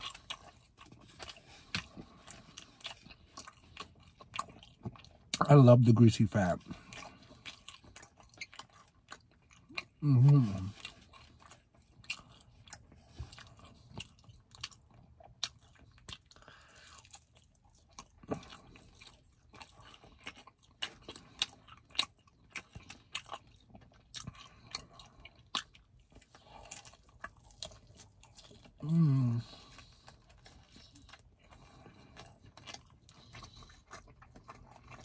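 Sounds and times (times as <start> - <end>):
chewing crispy meat: 0.0 - 35.0.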